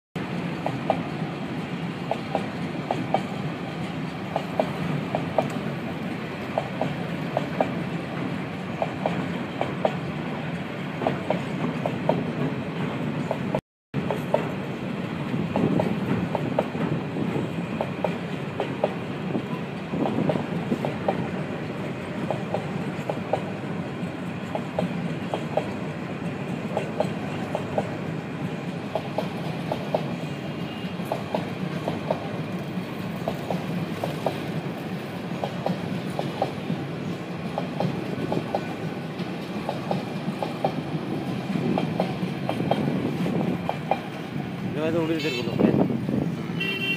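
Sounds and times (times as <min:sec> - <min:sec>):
wheels clattering over rail joints: 0:00.2 - 0:45.1
train wheels rumbling on rails: 0:00.2 - 0:46.9.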